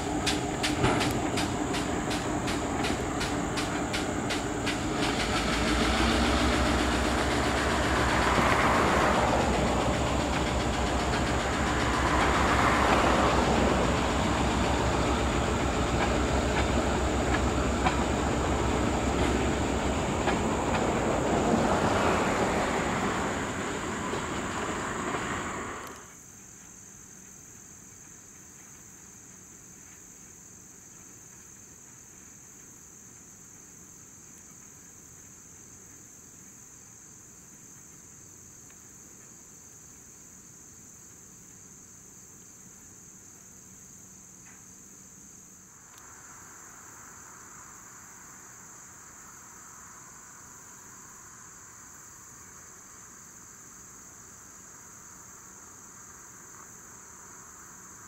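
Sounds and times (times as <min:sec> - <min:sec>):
insect chorus trilling: 0:00.0 - 0:58.0.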